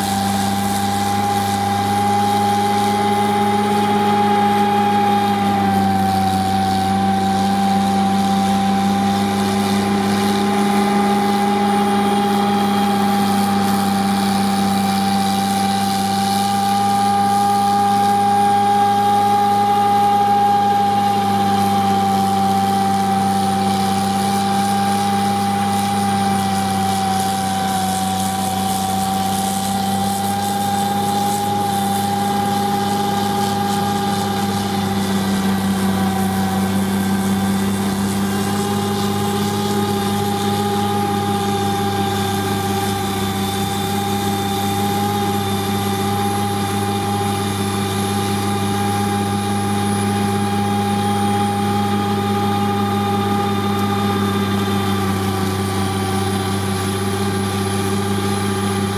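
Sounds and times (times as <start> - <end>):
auger whine: 0.0 - 58.9
snowblower engine drone: 0.0 - 58.9.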